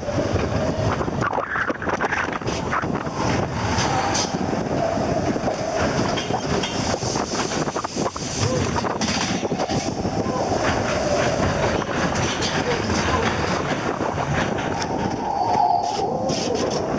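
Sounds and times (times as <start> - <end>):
roller coaster rattling on track: 0.0 - 16.9.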